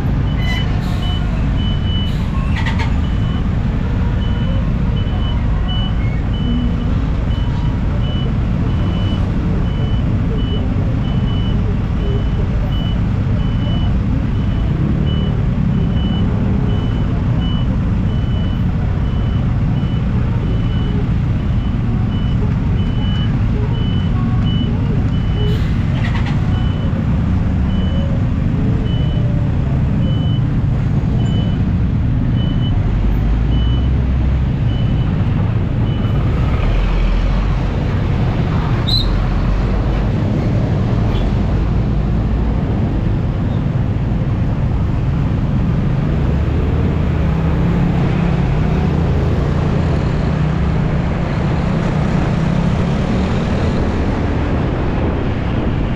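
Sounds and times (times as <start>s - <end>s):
road and wind rumble: 0.0s - 55.9s.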